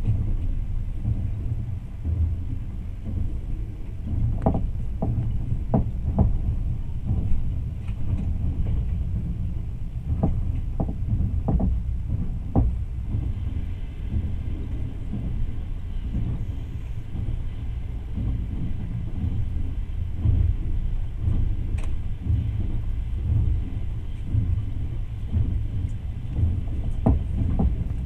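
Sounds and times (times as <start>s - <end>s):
train rumbling on rails: 0.0s - 28.0s
wheels clacking over rail joints: 0.0s - 28.0s.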